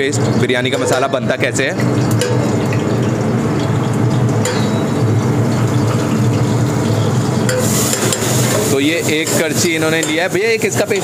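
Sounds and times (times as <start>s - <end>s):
kitchen hum and gas burners rushing: 0.0s - 11.0s.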